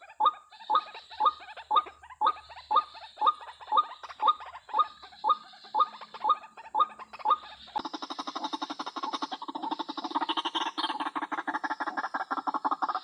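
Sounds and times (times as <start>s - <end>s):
waterhen croaking call: 0.0s - 13.0s.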